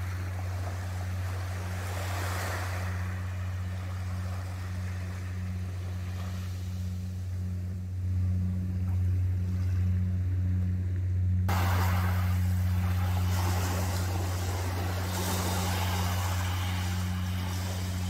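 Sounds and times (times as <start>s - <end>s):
boat engine droning: 0.0s - 18.0s
wind and surf hiss: 0.0s - 18.0s.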